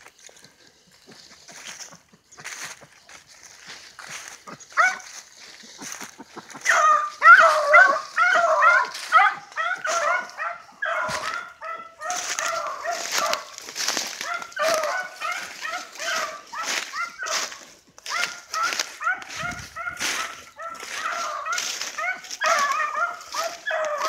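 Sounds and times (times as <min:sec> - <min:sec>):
leaves and brush rustling: 0:00.0 - 0:24.0
dogs baying: 0:03.1 - 0:24.0.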